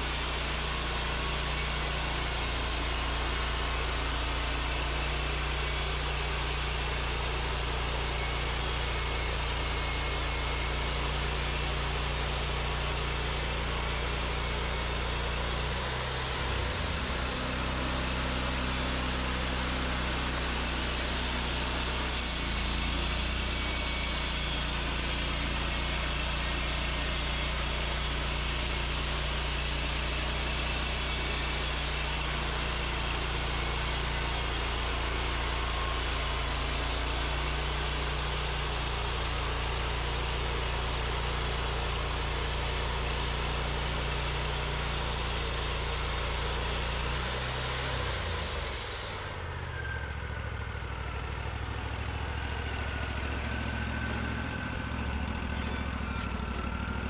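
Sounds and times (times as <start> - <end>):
band sawmill sawing log: 0.0 - 49.5, 51.6 - 57.0.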